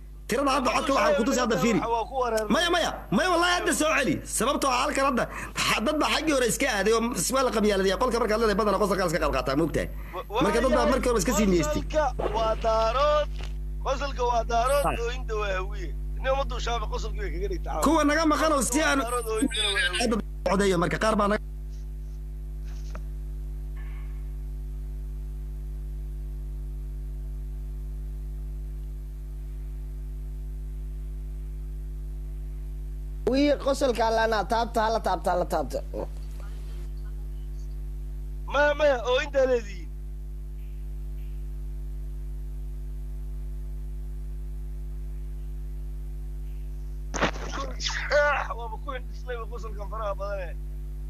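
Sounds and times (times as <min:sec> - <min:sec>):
buzzy electrical hum: 0:00.0 - 0:51.0.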